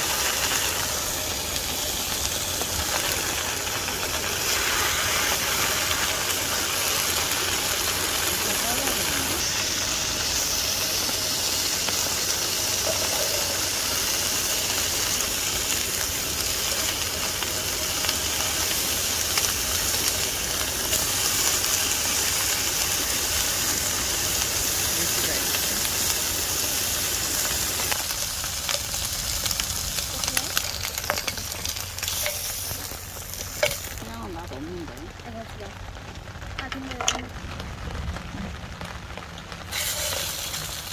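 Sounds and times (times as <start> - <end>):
food sizzling in a pan: 0.0 - 37.6, 39.5 - 40.9.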